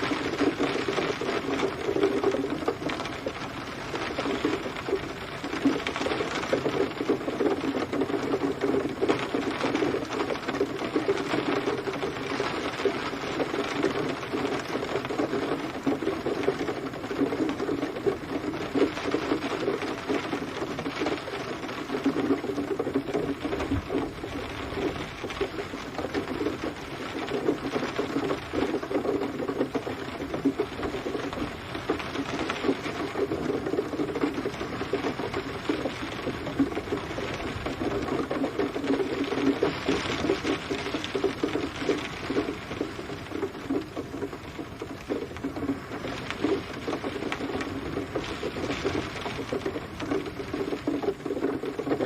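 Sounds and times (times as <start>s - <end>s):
rain pattering on a surface: 0.0s - 52.0s.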